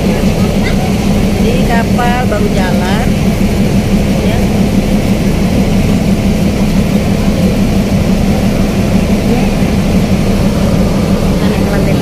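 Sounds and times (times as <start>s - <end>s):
ship engines deep hum: 0.0s - 12.0s.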